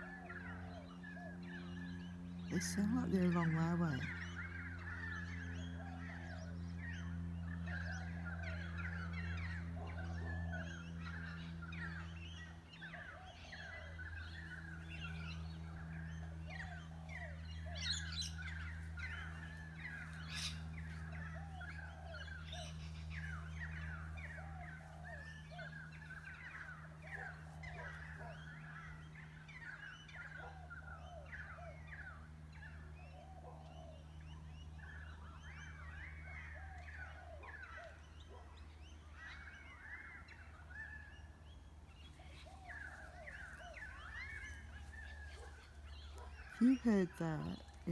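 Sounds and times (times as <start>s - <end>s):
chorus of distant birds calling: 0.0s - 47.9s
sharp bird calls: 0.0s - 47.9s
steady low hum: 0.0s - 47.9s.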